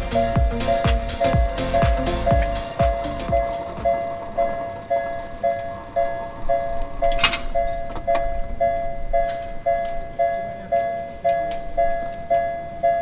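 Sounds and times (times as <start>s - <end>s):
level crossing warning bell: 1.2s - 13.0s.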